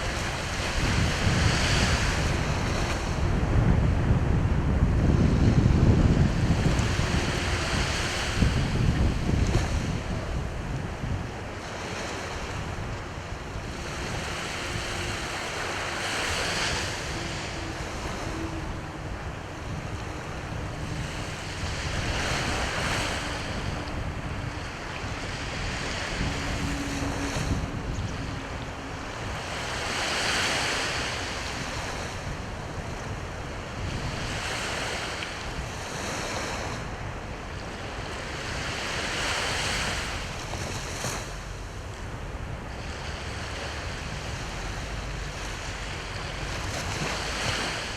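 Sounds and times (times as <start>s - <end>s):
sea waves washing onto shore: 0.0s - 47.9s
wind rumble on microphone: 0.0s - 47.9s.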